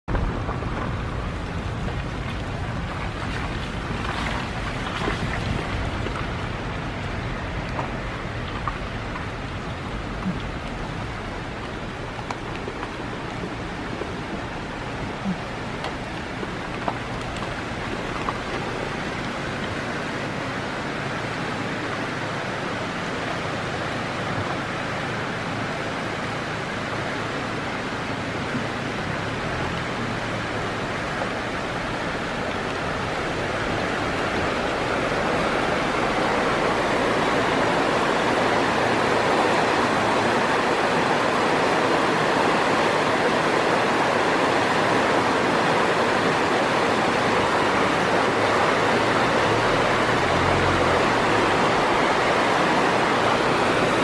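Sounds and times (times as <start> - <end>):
creek rushing: 0.0 - 54.0.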